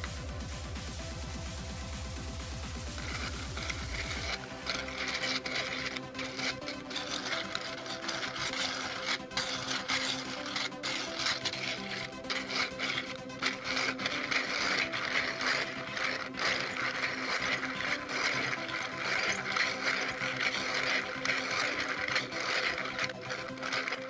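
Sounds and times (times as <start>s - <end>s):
engine model clicking rattle: 2.9s - 24.0s.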